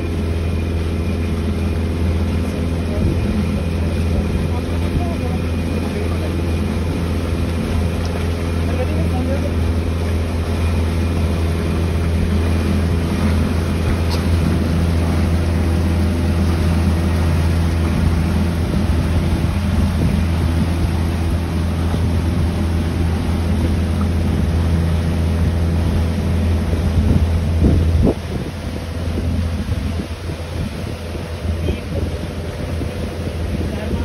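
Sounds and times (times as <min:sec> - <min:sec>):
motorboat engine droning: 0:00.0 - 0:34.0.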